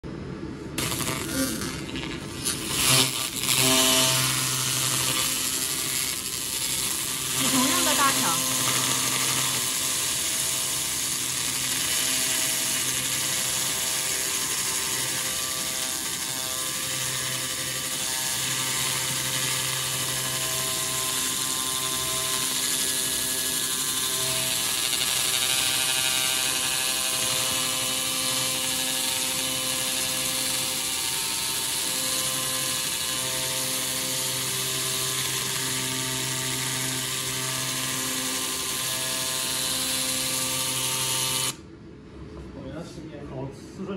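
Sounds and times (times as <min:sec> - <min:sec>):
steady tonal hum: 0:00.0 - 0:42.0
laser hissing: 0:00.8 - 0:41.6.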